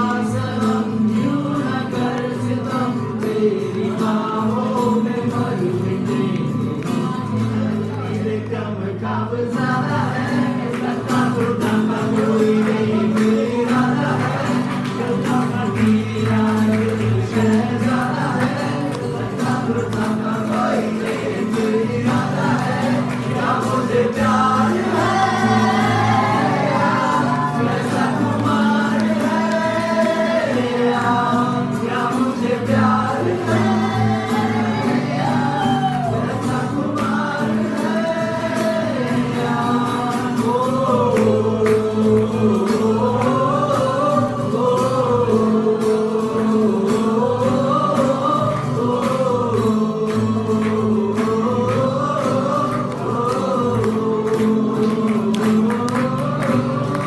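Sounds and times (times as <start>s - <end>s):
acoustic guitars strummed: 0.0s - 57.0s
group singing: 0.0s - 57.0s.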